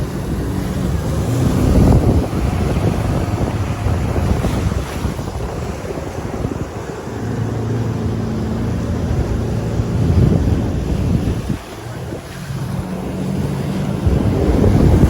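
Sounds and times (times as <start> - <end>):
jet ski engine running: 0.0 - 15.0
water rushing past hull: 0.0 - 15.0
wind buffeting microphone: 0.0 - 15.0.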